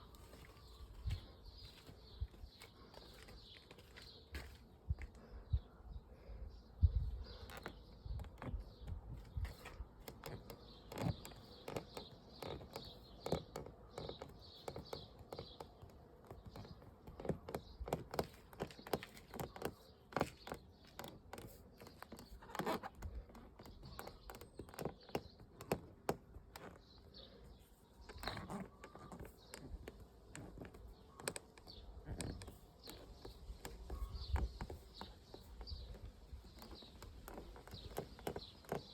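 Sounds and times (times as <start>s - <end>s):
small clicks and creaks: 7.3s - 38.9s.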